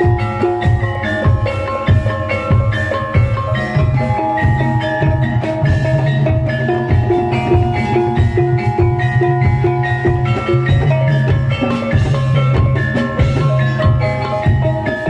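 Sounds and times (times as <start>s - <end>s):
metal mallet instruments: 0.0s - 15.0s
steady low drum beat: 0.0s - 15.0s.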